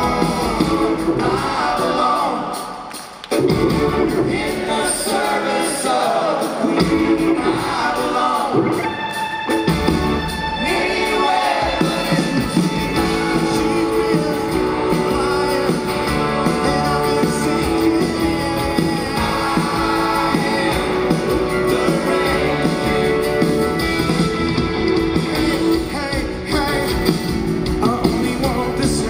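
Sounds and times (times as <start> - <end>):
bass: 0.0 - 2.6, 3.3 - 4.8, 6.8 - 29.0
man singing lead vocal: 0.0 - 9.0, 10.5 - 23.5, 25.2 - 29.0
drums: 0.0 - 29.0
guitar: 0.0 - 29.0.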